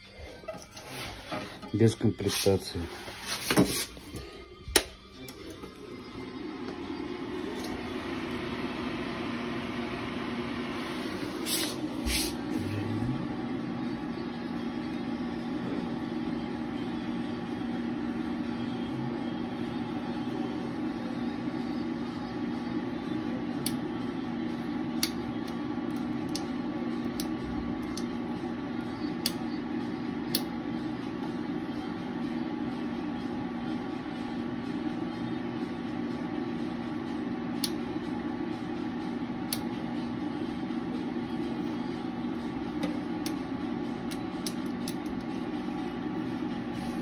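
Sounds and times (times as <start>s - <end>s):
cooling fan humming: 0.0s - 47.0s.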